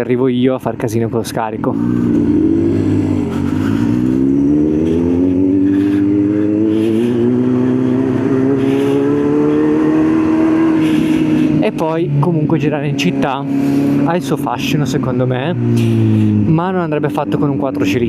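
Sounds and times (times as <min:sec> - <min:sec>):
motorcycle engine accelerating: 0:01.2 - 0:18.0.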